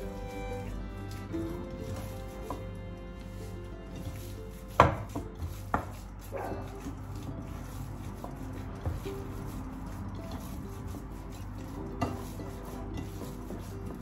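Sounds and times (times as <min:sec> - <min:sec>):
hands kneading minced meat: 0:00.0 - 0:14.0
soft background music: 0:00.0 - 0:14.0.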